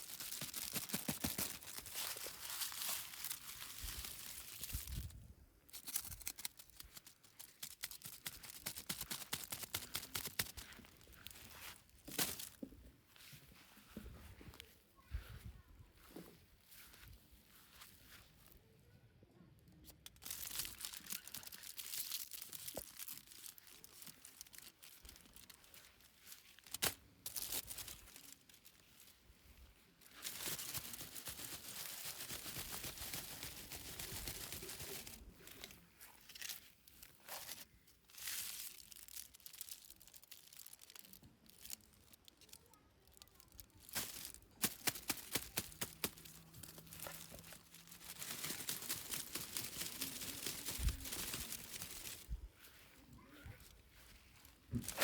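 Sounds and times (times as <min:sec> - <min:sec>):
plastic wrapping crinkling: 0:00.0 - 0:12.8, 0:20.0 - 0:52.8, 0:53.6 - 0:55.0.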